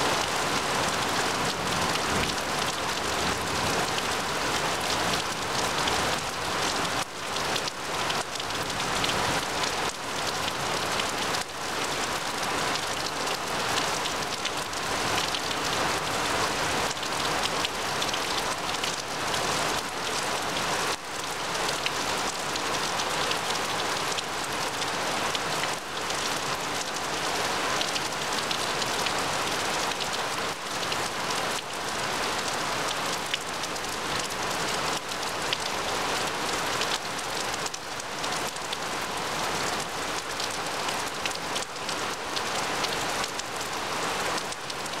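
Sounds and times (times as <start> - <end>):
heavy rain on grass and trees: 0.0 - 45.0.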